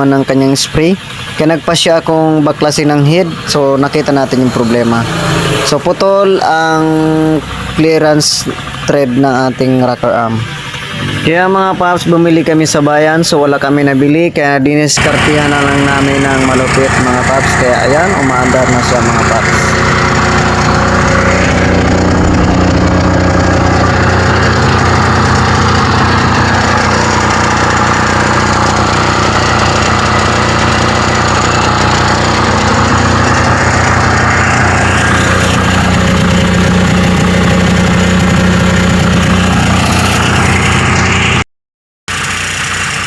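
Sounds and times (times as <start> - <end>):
diesel generator engine running: 0.0 - 41.4, 42.1 - 43.0.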